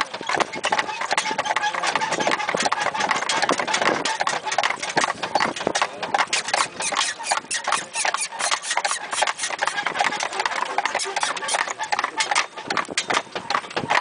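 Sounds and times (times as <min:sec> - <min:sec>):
hooves clip-clopping on asphalt: 0:00.0 - 0:14.0.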